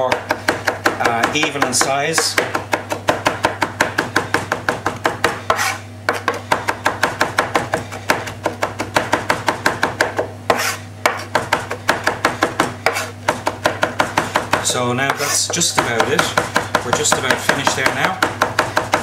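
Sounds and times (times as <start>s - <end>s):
knife chopping on board: 0.0s - 19.0s.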